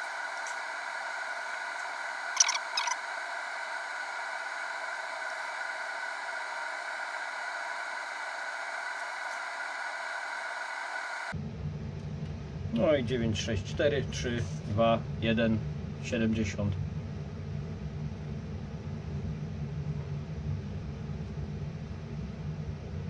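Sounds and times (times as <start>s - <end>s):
cooling fan whirring: 0.0s - 23.0s.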